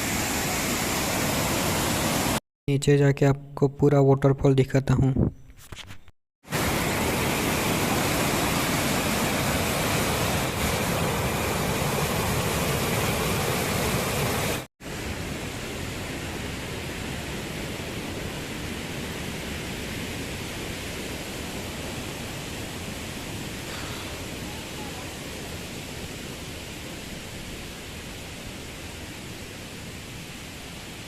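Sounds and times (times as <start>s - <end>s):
waterfall rushing: 0.0s - 2.4s, 6.5s - 18.6s, 20.4s - 31.0s.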